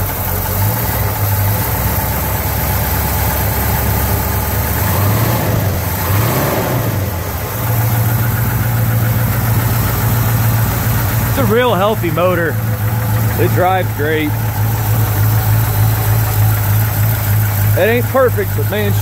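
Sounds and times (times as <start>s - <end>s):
engine running and revving: 0.0s - 19.0s.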